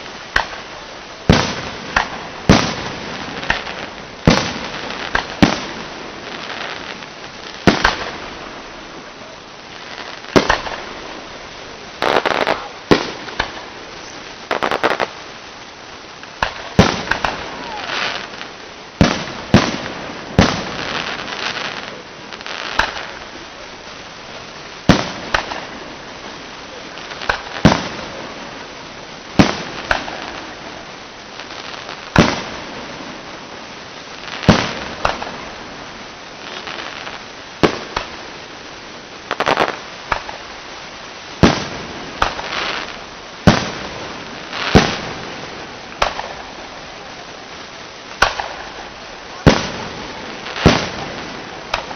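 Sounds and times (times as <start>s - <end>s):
firework bangs: 0.0s - 51.9s
firework crackling fizz: 0.0s - 51.9s.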